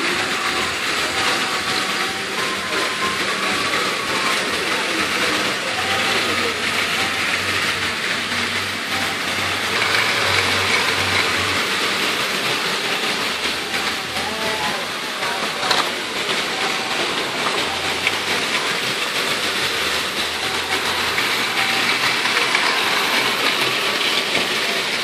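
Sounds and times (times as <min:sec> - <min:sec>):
toy trains whirring on track: 0:00.0 - 0:25.0.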